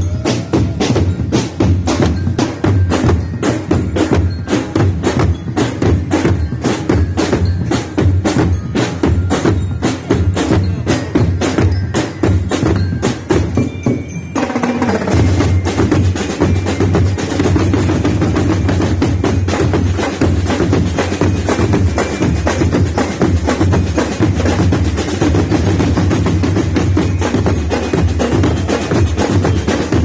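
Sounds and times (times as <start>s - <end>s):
marching drum band: 0.0s - 30.0s.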